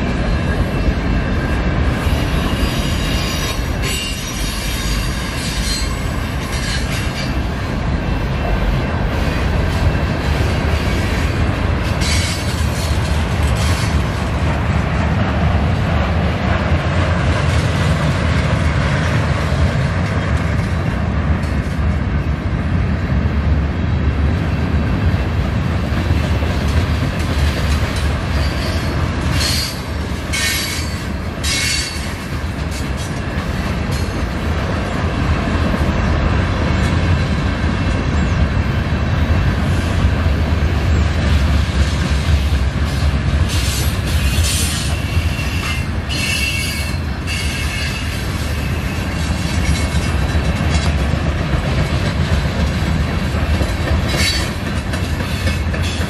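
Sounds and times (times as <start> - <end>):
freight train rumbling on rails: 0.0 - 56.0.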